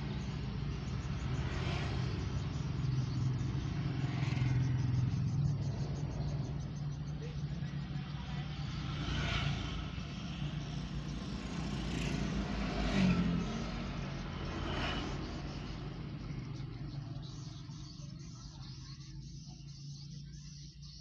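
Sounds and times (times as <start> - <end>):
low engine hum: 0.0 - 20.7
motorcycles and scooters passing: 0.0 - 21.0.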